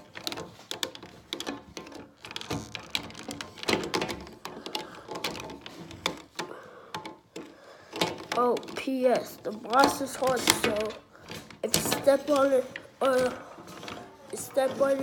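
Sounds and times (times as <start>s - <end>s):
plastic toy parts clicking: 0.0s - 15.0s.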